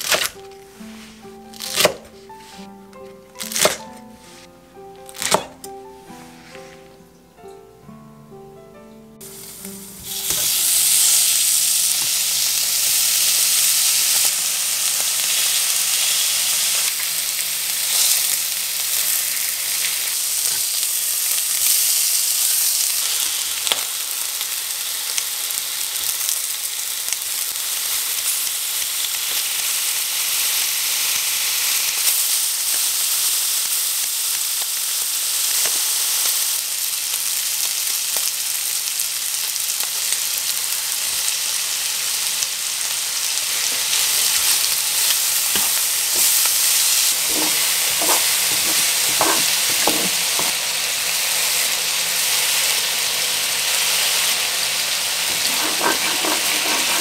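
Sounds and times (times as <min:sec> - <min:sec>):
meat sizzling in a frying pan: 0:09.2 - 0:57.0.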